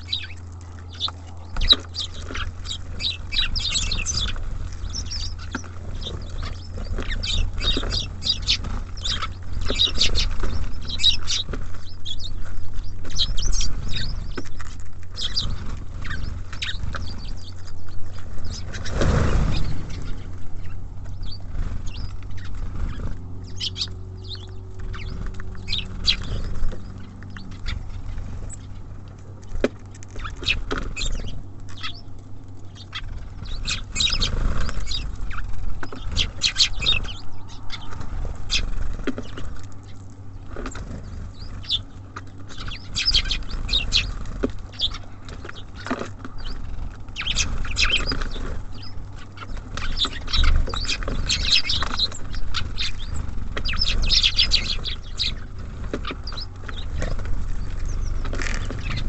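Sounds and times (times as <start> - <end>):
songbirds chirping: 0.0 - 59.0
steady low rumble: 0.0 - 59.0.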